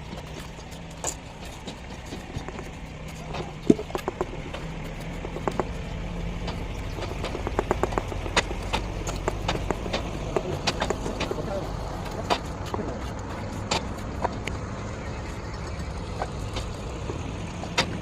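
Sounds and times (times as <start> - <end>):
sharp taps and knocks: 0.0 - 18.0
steady low hum: 0.0 - 18.0.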